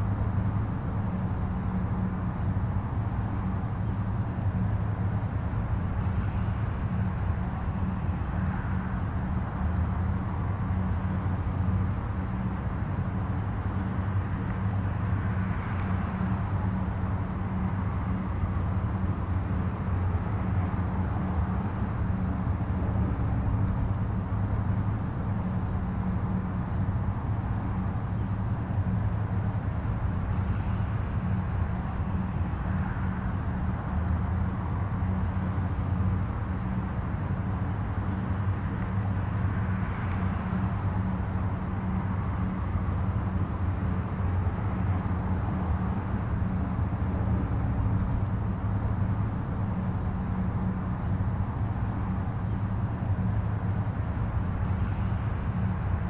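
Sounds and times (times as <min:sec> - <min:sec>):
distant highway traffic rumble: 0:00.0 - 0:56.0
vehicles passing: 0:00.0 - 0:56.0.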